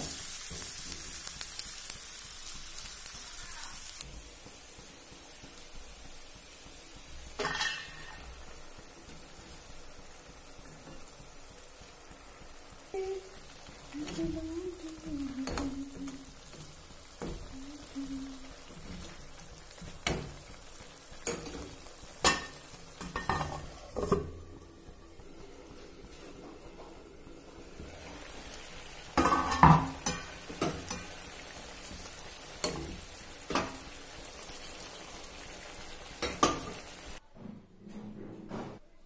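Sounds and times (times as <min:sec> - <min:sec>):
curry sizzling in a wok: 0:00.0 - 0:37.2.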